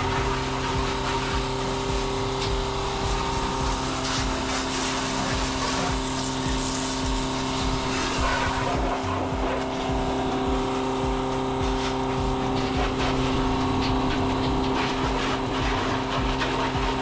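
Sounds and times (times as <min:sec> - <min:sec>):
truck engine and vacuum pump hum: 0:00.0 - 0:17.0.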